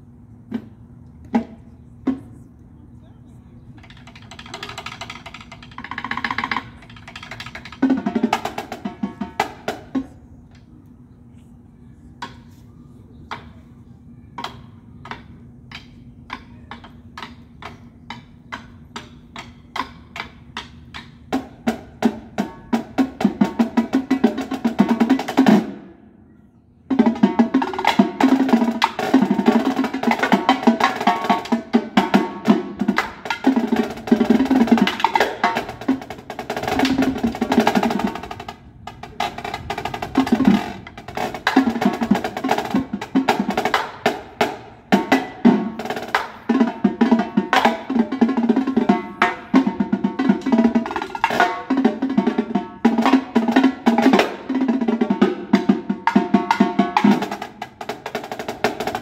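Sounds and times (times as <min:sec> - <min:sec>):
drums played with sticks: 0:03.8 - 0:10.2, 0:14.4 - 0:26.0, 0:26.9 - 0:59.0.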